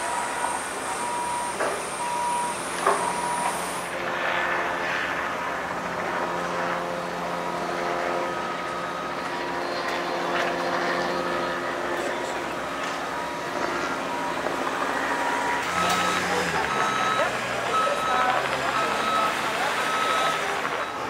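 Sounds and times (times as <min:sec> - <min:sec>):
reversing alarm beeping: 0:00.0 - 0:04.0, 0:07.4 - 0:21.0
engine running steadily: 0:00.0 - 0:21.0.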